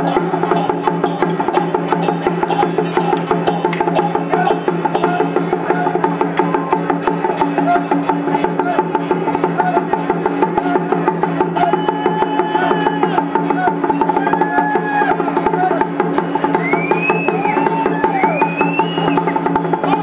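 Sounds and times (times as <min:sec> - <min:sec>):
drums playing fast beat: 0:00.0 - 0:20.0.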